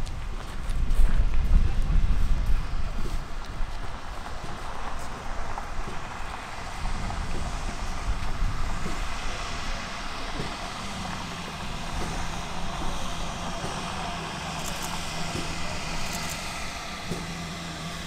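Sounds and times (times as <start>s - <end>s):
steam locomotive running slowly: 0.0s - 18.0s.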